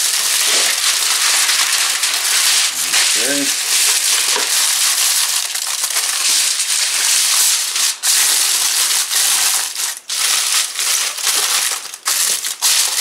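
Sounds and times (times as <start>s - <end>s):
aluminum foil crinkling: 0.0s - 13.0s.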